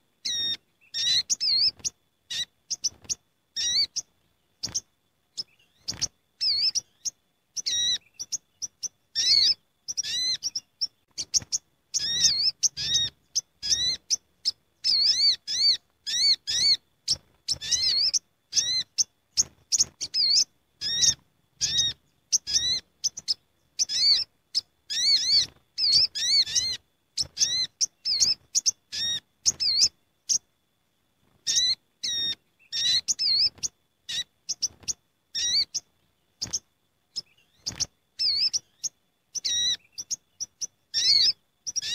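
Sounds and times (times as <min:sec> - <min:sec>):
sunbirds chirping in chorus: 0:00.0 - 0:41.9.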